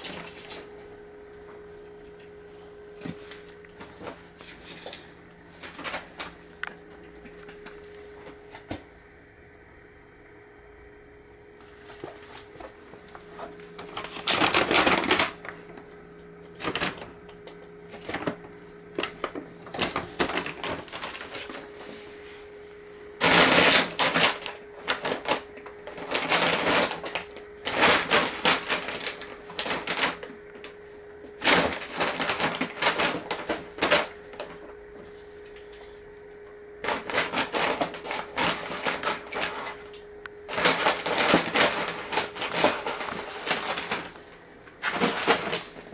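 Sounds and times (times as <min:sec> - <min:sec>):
paper bag crackling and rustling: 0:00.0 - 0:00.8, 0:03.1 - 0:06.5, 0:11.6 - 0:22.5, 0:23.1 - 0:36.0, 0:36.8 - 0:45.9
steady low hum: 0:00.0 - 0:45.9.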